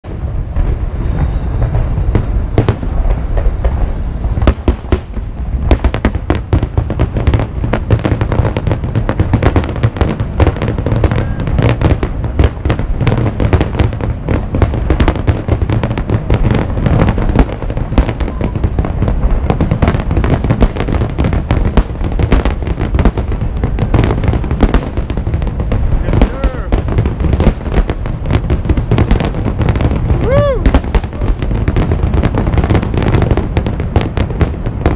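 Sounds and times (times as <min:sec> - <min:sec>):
fireworks bursting and crackling: 0:00.0 - 0:34.9
heavy low rumble: 0:00.0 - 0:34.9.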